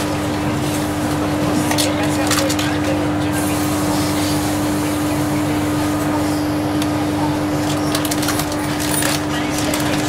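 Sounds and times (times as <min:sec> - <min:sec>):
train carriage hum: 0:00.0 - 0:10.0.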